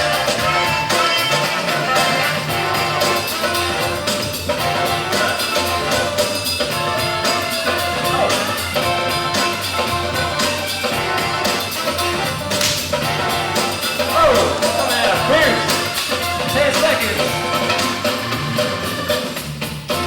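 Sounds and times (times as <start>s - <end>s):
funk music with drums and horns: 0.0s - 20.0s.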